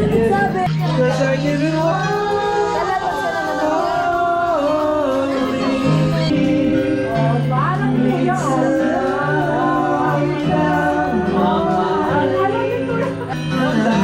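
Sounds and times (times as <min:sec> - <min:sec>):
person singing gliding melody: 0:00.0 - 0:14.0
steady bass line: 0:00.0 - 0:14.0.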